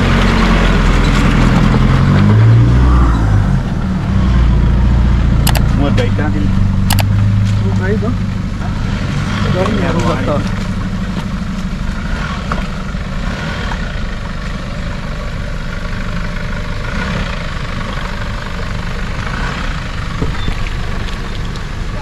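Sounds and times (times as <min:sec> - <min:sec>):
vehicle engine running at low revs: 0:00.0 - 0:22.0.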